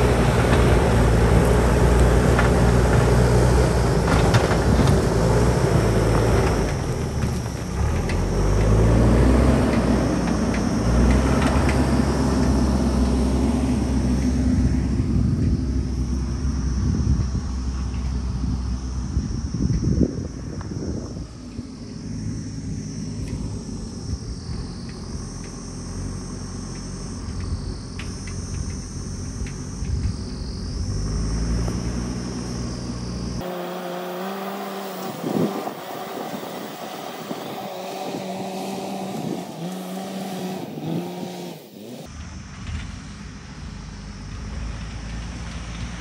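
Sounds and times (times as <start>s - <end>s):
diesel engine revving: 0.0s - 19.8s, 21.3s - 42.8s.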